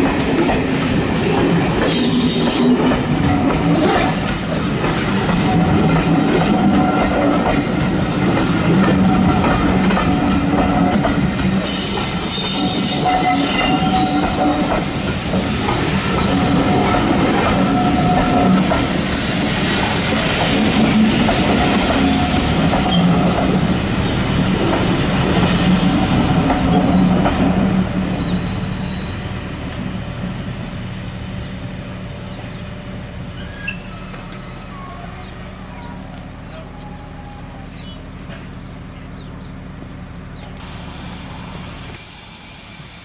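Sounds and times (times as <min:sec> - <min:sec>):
wheels squealing on rails: 0:00.0 - 0:31.2, 0:32.0 - 0:38.2, 0:40.6 - 0:43.0
train coaches rolling past: 0:00.0 - 0:43.0.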